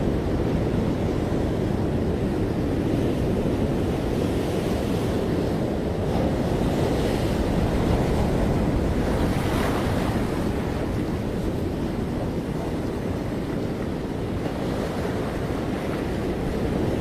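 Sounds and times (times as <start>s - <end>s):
ocean surf washing on beach: 0.0s - 17.0s
wind rumbling on microphone: 0.0s - 17.0s.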